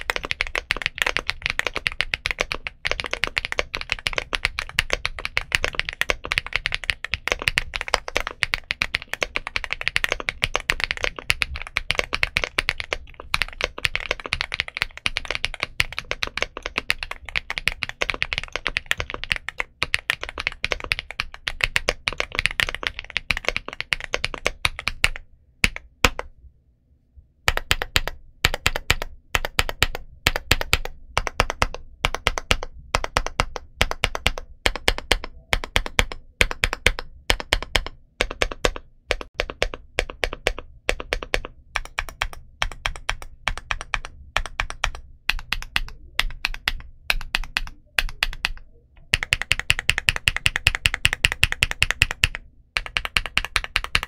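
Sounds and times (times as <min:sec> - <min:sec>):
mechanical keyboard typing: 0:00.0 - 0:26.3, 0:27.5 - 0:54.0.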